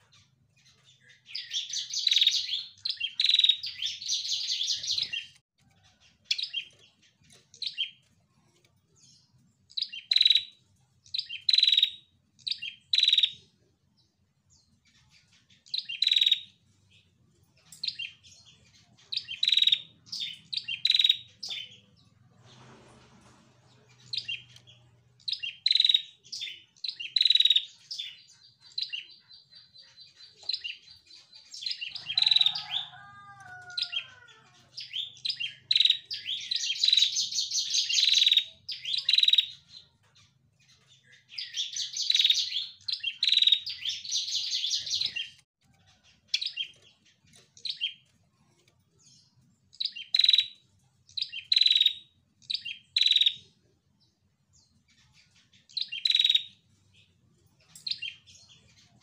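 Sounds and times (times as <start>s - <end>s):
bird chirping: 0.0s - 59.0s.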